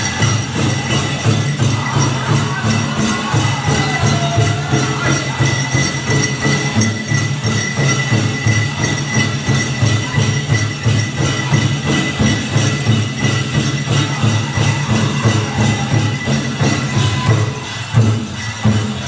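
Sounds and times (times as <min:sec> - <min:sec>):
drum group playing with song: 0:00.0 - 0:19.0
leg bells jingling: 0:00.0 - 0:19.0.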